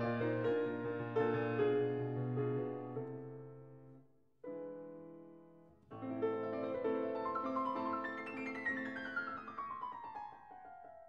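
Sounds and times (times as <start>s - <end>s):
piano music: 0.0s - 3.9s, 4.5s - 11.0s.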